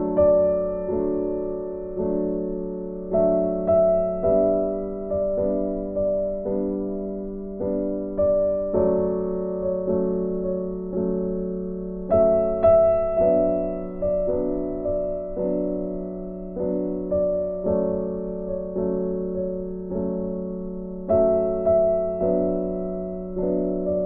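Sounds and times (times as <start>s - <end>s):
gentle piano piece: 0.0s - 24.0s.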